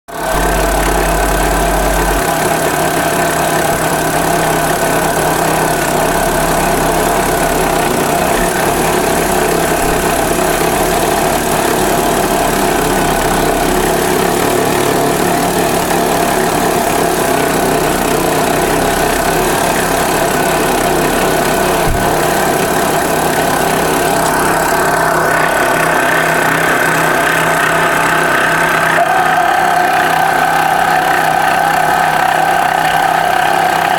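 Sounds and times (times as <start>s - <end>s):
car engine mechanical drone: 0.1s - 33.9s
constant whine: 0.1s - 33.9s.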